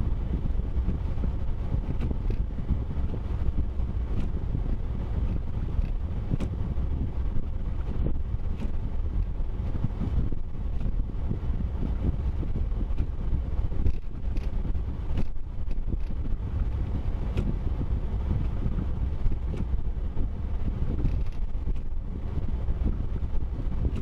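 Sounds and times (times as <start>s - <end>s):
vehicle rumbling: 0.0s - 24.0s
wind buffeting microphone: 0.0s - 24.0s.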